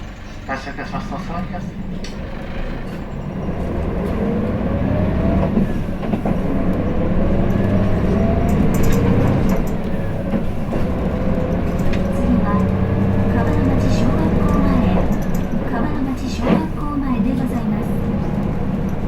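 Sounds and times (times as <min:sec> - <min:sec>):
bus engine rumble and whine: 0:00.0 - 0:19.0.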